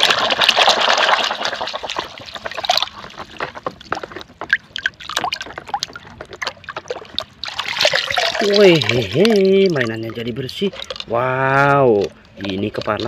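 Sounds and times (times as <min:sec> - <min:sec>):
water dripping: 0:00.0 - 0:13.0
water splashing and pouring: 0:00.0 - 0:13.0.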